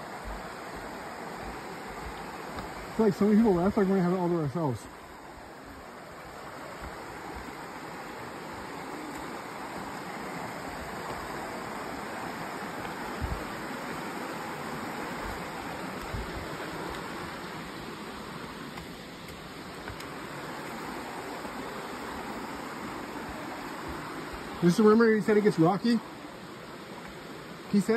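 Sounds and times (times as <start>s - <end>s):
river rushing over stones: 0.0s - 27.9s.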